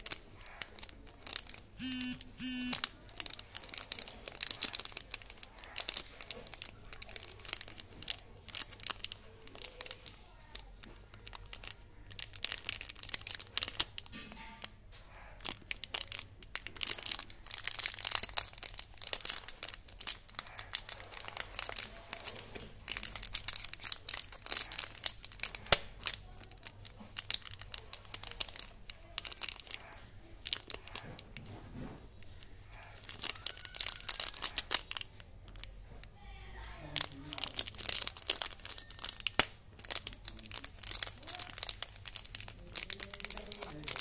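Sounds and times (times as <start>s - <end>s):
candy wrapper crinkling: 0.0s - 44.0s.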